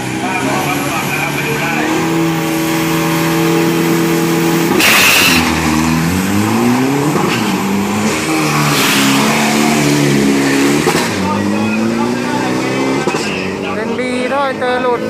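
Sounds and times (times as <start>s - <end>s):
truck launching and accelerating: 0.0s - 13.6s
diesel truck engine revving: 0.0s - 15.0s.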